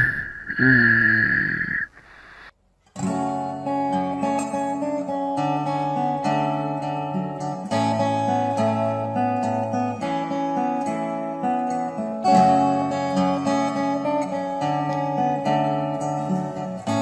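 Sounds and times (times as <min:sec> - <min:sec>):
acoustic guitar playing: 0:02.6 - 0:17.0.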